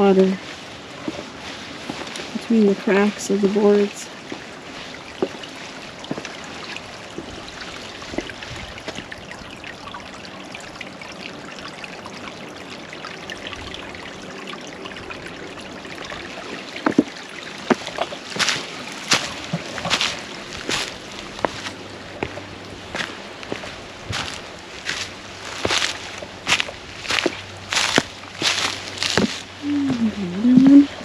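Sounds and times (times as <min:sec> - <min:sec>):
creek water trickling: 0:00.0 - 0:31.0.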